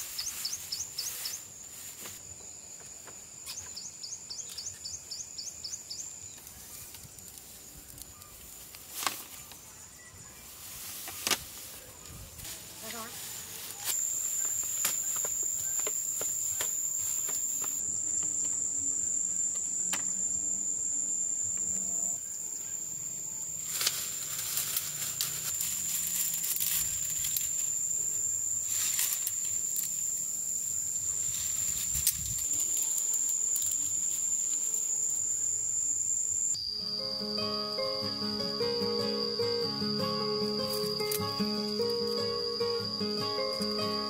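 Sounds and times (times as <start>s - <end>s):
insects buzzing high-pitched: 0.0s - 44.0s.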